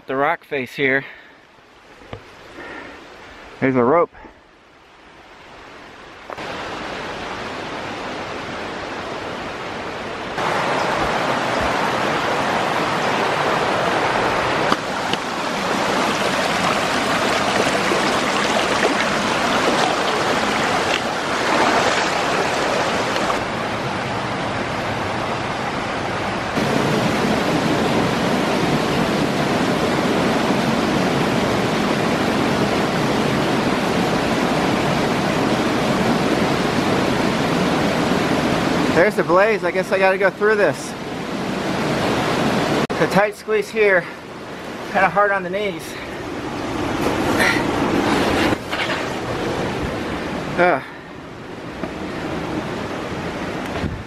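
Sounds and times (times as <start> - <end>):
creek water rushing: 0.8 - 54.0.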